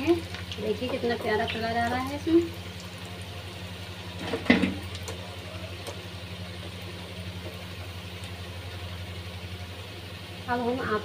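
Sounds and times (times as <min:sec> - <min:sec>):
hot oil sizzling: 0:00.0 - 0:11.0
steady low hum: 0:00.0 - 0:11.0.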